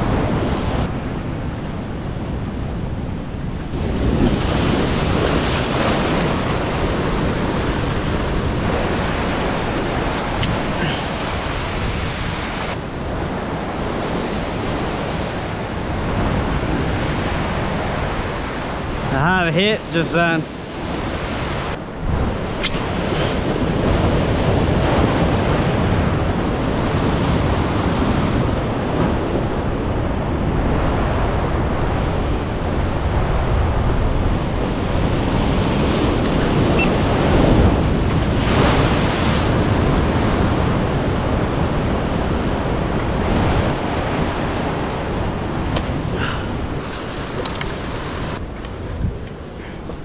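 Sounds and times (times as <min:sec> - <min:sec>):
wind buffeting microphone: 0:00.0 - 0:19.1, 0:20.5 - 0:50.0
surf breaking over rocks: 0:03.7 - 0:49.0.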